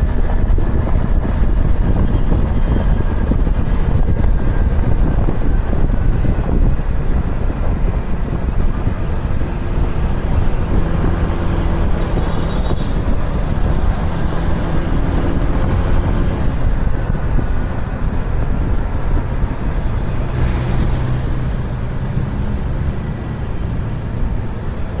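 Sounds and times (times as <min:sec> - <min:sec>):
road rumble: 0:00.0 - 0:25.0
wind buffeting on microphone: 0:00.0 - 0:25.0.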